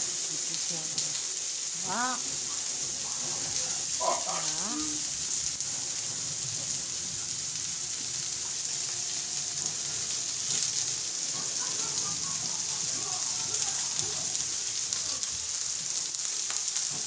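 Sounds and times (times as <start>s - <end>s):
vegetables sizzling on griddle: 0.0s - 17.0s.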